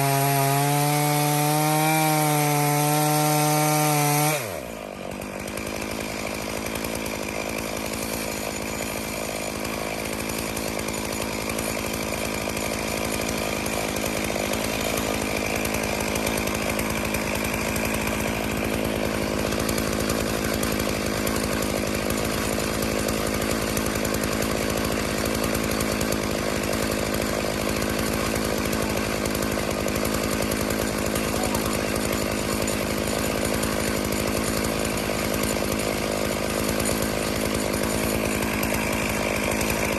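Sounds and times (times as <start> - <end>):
chainsaw ripping a log: 0.0 - 39.9.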